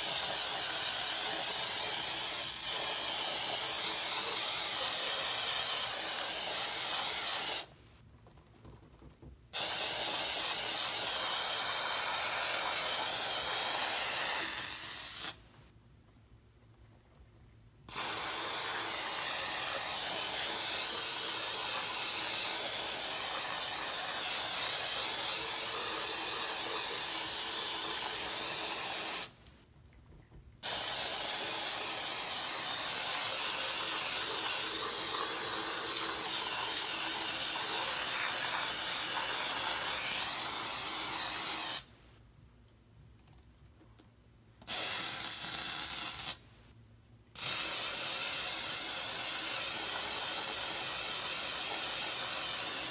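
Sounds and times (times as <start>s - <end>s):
aerosol foam spraying: 0.0s - 7.7s, 9.6s - 15.4s, 17.9s - 29.4s, 30.6s - 41.9s, 44.7s - 46.4s, 47.4s - 52.9s.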